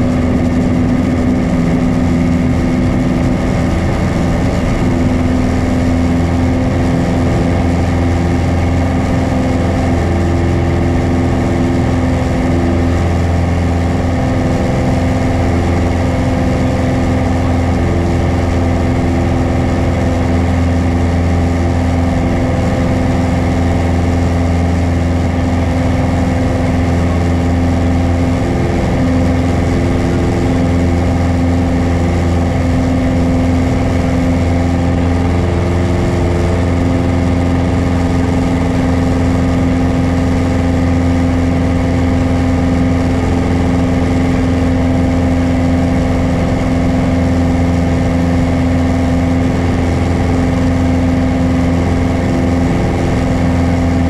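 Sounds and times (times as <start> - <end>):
propeller aircraft engine humming: 0.0 - 54.0.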